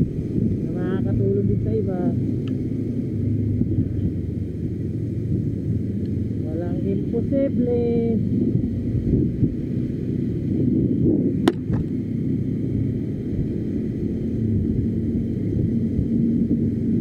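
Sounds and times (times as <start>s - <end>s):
motorcycle engine rumble: 0.0s - 17.0s
wind on microphone: 0.0s - 17.0s.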